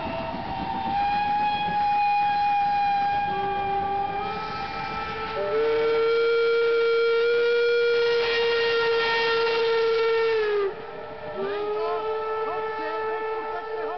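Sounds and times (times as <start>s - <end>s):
high steam whistle: 0.0s - 13.9s
low steam whistle: 0.0s - 13.9s.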